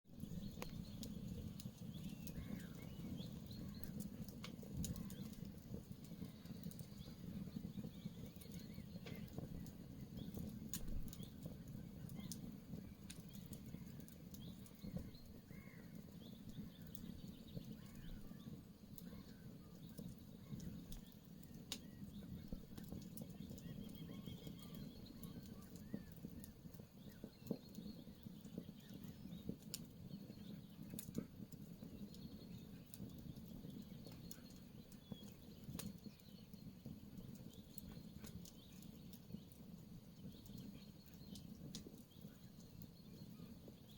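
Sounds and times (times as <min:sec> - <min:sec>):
campfire crackling and popping: 0:00.1 - 0:43.9
faint birdsong: 0:00.1 - 0:43.9.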